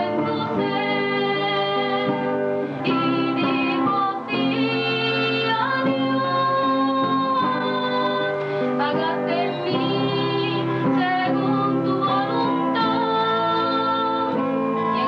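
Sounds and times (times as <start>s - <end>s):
instrumental accompaniment: 0.0s - 15.0s
woman singing long notes: 0.0s - 15.0s.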